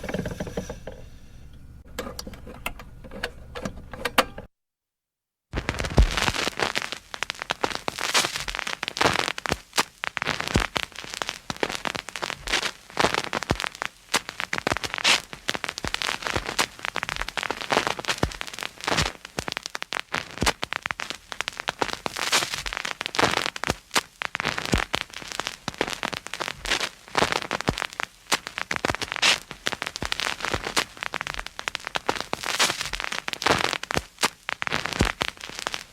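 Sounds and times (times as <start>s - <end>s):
record surface crackle: 0.0s - 3.9s, 5.5s - 35.9s.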